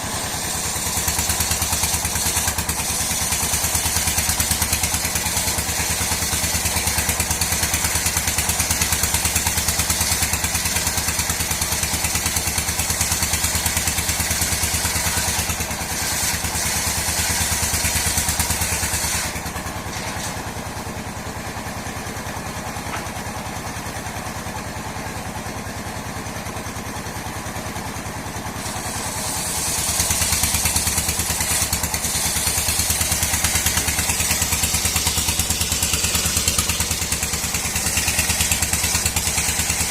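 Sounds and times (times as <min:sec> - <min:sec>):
saw hissing through wood: 0:00.0 - 0:39.9
sawmill machine pulsing: 0:00.0 - 0:39.9.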